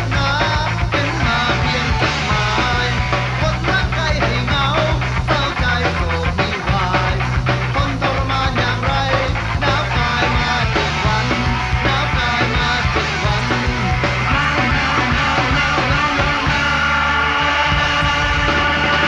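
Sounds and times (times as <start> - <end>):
drums playing: 0.0 - 19.0
electric guitars: 0.0 - 19.0.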